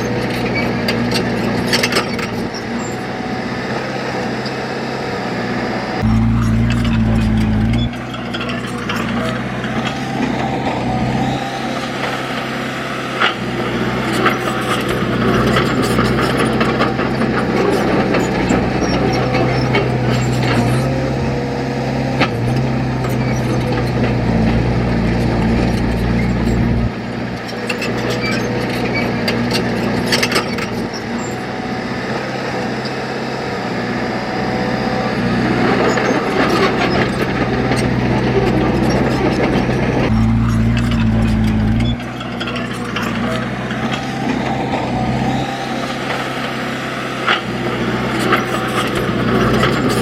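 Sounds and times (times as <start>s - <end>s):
heavy machine engine running: 0.0s - 50.0s.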